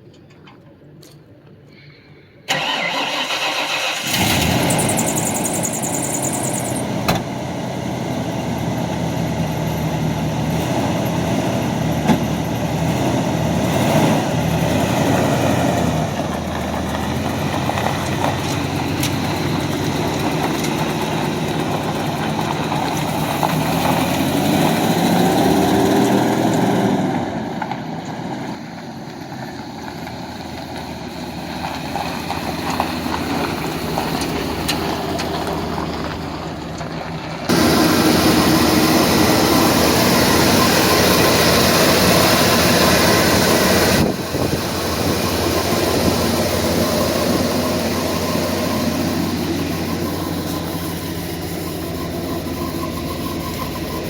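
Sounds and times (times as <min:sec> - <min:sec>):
pickup truck engine idling: 0:02.5 - 0:54.0.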